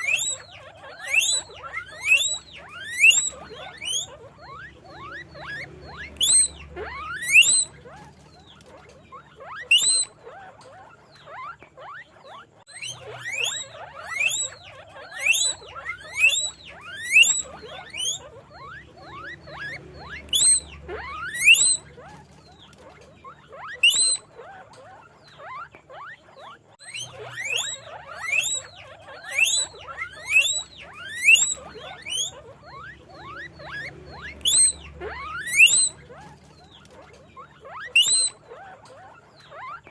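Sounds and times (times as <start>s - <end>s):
guinea pig squealing: 0.0s - 39.9s.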